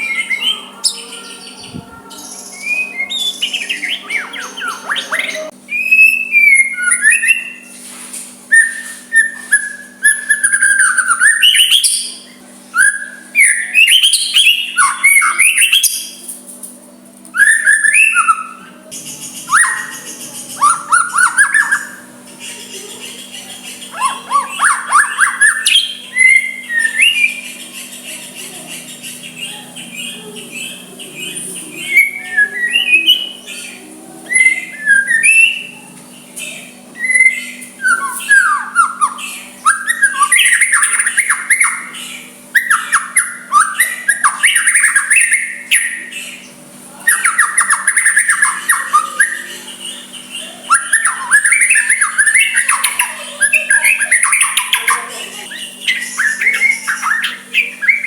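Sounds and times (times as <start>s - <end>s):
bird singing whistled phrases: 0.0s - 7.7s, 8.5s - 16.2s, 17.4s - 22.1s, 23.7s - 58.0s.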